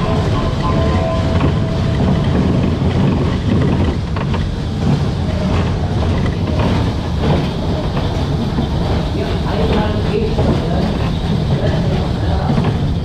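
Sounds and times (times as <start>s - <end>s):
coaster train rumbling on track: 0.0s - 13.0s.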